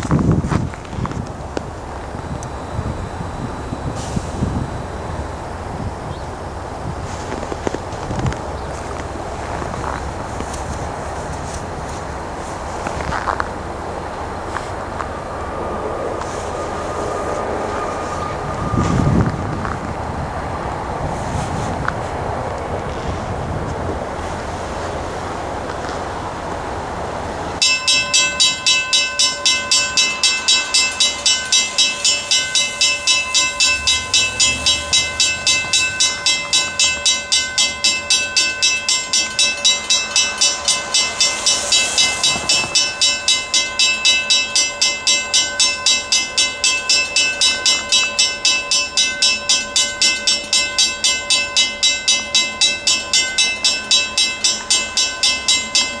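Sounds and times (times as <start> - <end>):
crossing warning bell ringing: 0.0 - 21.9, 24.9 - 56.0
diesel locomotive approaching: 0.0 - 56.0.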